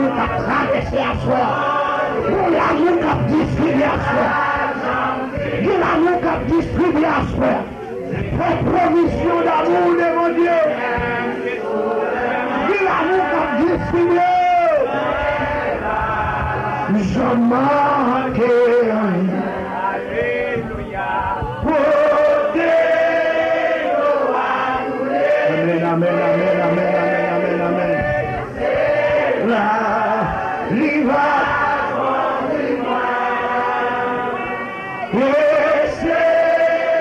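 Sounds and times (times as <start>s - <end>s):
man singing a hymn: 0.0s - 11.7s, 12.3s - 15.0s, 16.8s - 23.0s, 25.4s - 28.3s, 29.4s - 37.0s.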